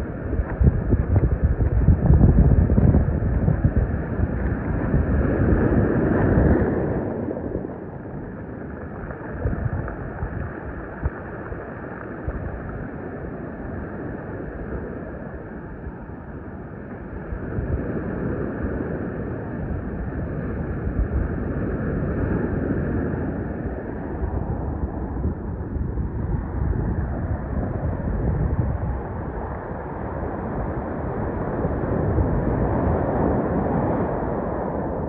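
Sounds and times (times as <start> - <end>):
ocean surf washing on beach: 0.0 - 35.0
wind rumbling on microphone: 0.0 - 35.0.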